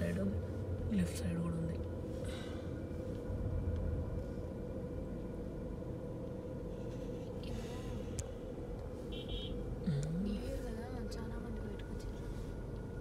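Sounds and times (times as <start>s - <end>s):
car cabin hum and rumble: 0.0s - 13.0s.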